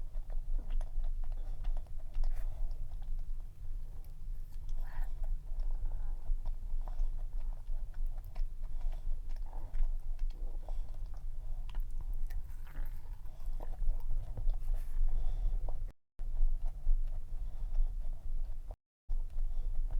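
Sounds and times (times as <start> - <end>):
chewing and biting cookie: 0.0 - 19.9.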